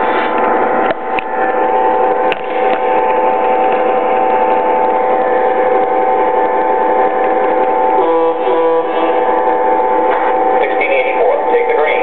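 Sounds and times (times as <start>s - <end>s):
model train electronic drone: 0.0s - 12.0s.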